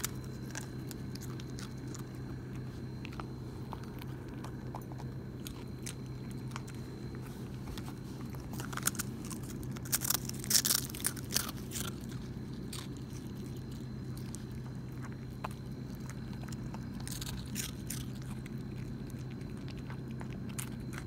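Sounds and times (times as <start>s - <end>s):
dog crunching crackers: 0.0s - 21.0s.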